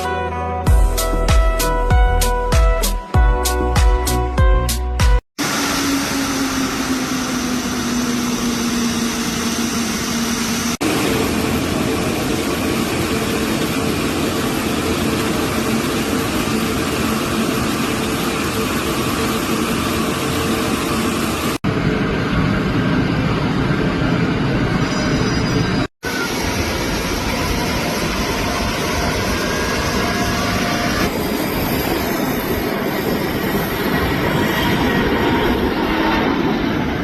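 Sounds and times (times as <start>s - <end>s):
light aircraft engine drone: 5.4s - 37.0s.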